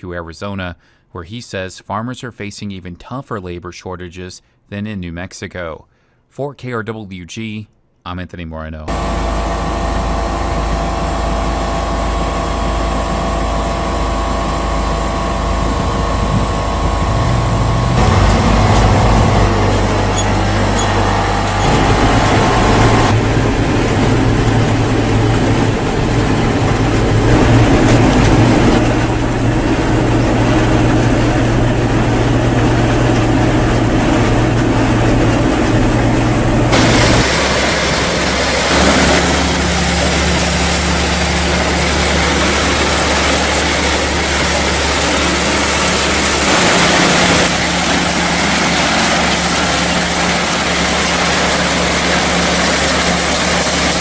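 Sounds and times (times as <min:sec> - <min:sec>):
farm machinery engine rumbling: 0:08.9 - 0:54.0.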